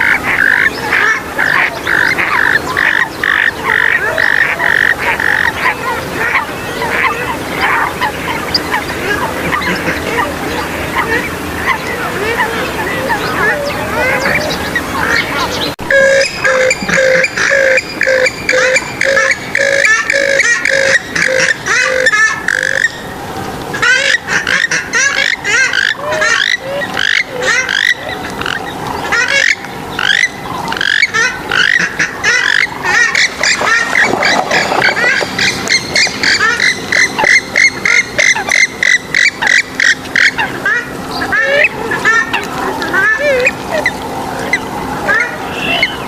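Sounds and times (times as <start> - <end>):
swamphens and moorhens calling: 0.0 - 46.0.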